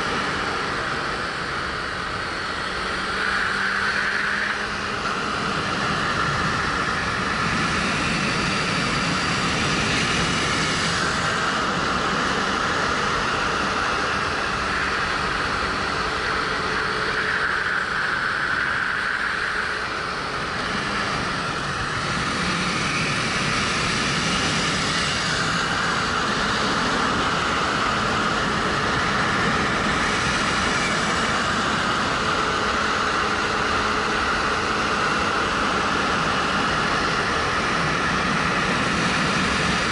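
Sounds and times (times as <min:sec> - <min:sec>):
wind rushing over helmet camera: 0:00.0 - 0:39.9.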